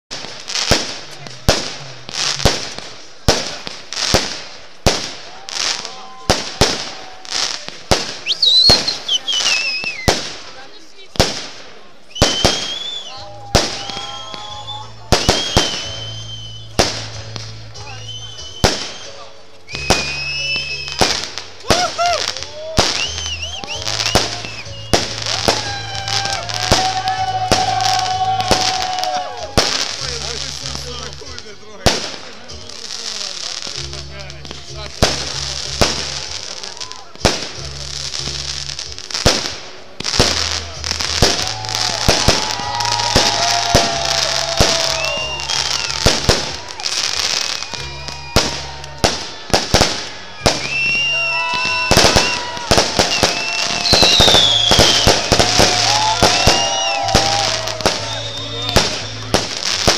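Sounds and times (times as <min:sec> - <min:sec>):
fireworks bangs: 0:00.1 - 0:59.9
fireworks hiss: 0:00.1 - 0:59.9.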